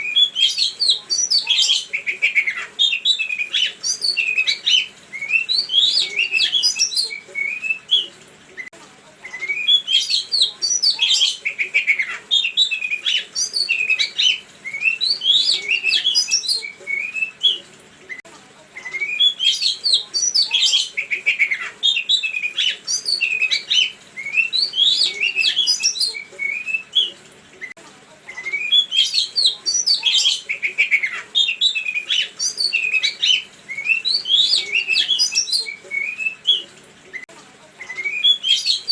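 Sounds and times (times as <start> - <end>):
songbird chirps and whistles: 0.0 - 38.9.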